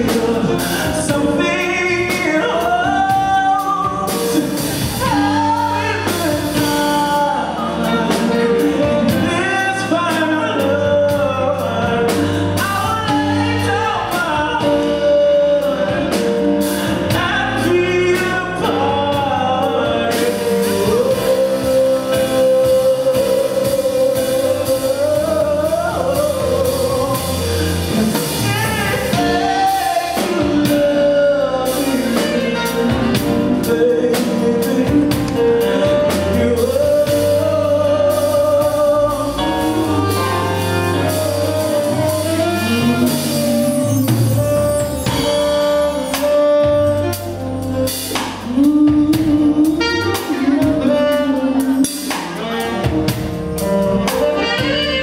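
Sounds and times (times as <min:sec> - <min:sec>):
jazz ensemble playing ballad: 0:00.0 - 0:55.0.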